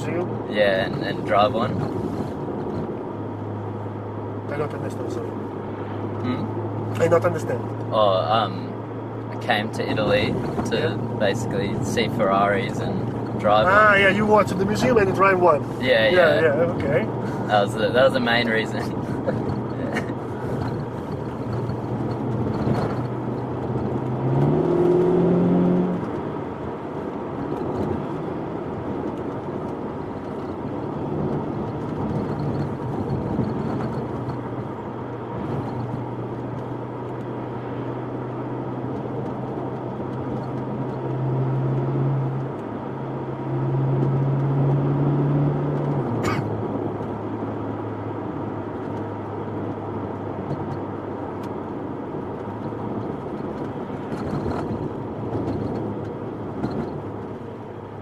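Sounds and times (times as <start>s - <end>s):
car engine revving: 0.0s - 58.0s
road and tyre noise: 0.0s - 58.0s.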